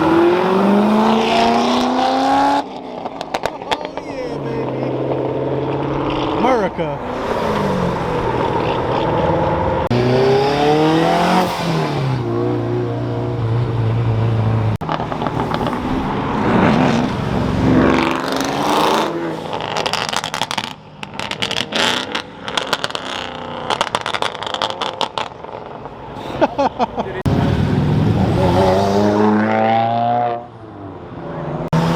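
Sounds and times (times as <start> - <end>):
car engines revving and passing: 0.0 - 31.9.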